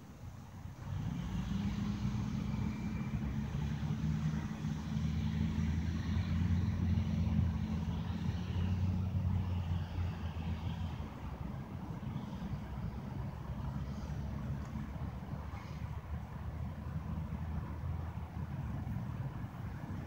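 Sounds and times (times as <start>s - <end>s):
truck engine droning: 0.8s - 20.0s.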